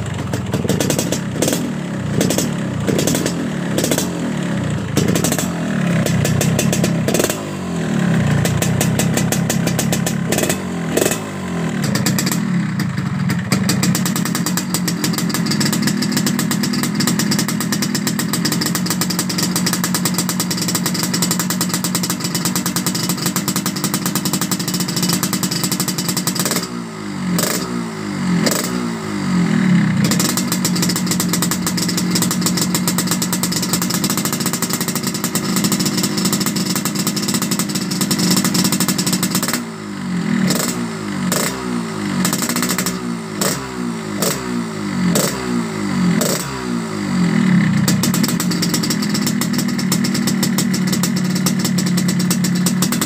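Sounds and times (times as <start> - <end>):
two-stroke motorcycle engine revving: 0.0 - 53.0.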